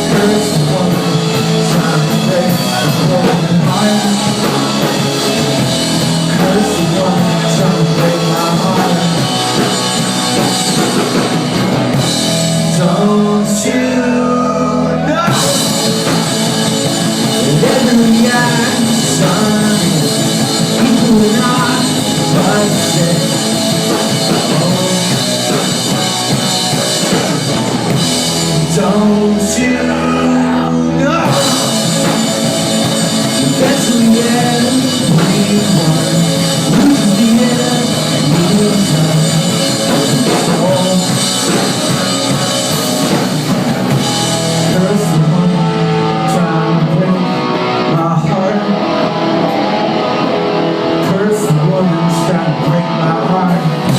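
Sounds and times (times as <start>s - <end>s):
drum kit: 0.0s - 14.1s, 15.0s - 48.0s, 48.8s - 53.9s
electric guitars: 0.0s - 53.9s
person singing: 0.0s - 53.9s.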